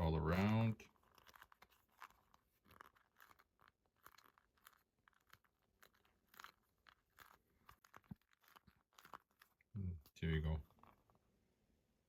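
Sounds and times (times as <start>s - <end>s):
patch crinkling and rubbing: 0.0s - 11.2s.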